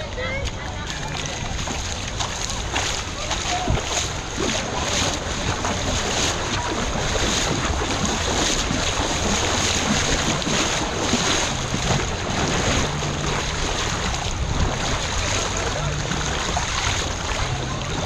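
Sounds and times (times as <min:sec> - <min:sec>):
water sloshing and lapping: 0:00.0 - 0:18.0
wind noise on microphone: 0:00.0 - 0:18.0.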